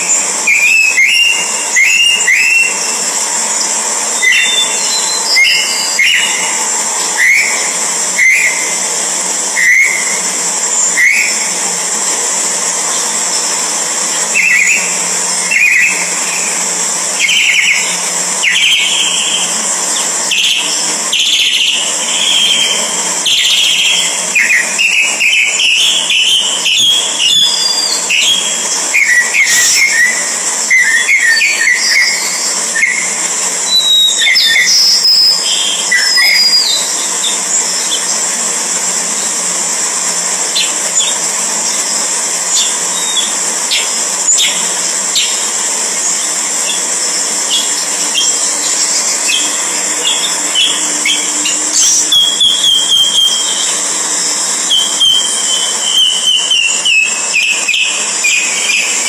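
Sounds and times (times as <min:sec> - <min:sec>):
birds chirping: 0:00.2 - 0:59.0.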